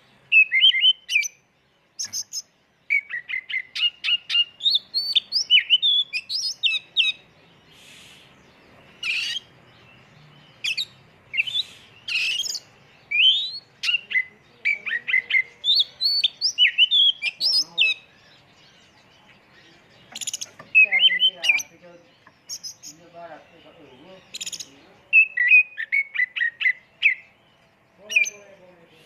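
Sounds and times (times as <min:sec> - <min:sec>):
songbird singing: 0:00.0 - 0:29.0.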